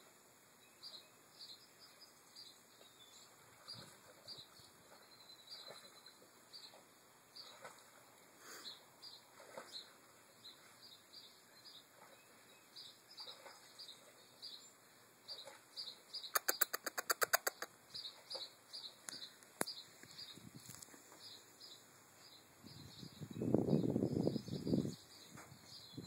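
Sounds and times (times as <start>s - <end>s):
small birds chirping: 0.6s - 26.0s.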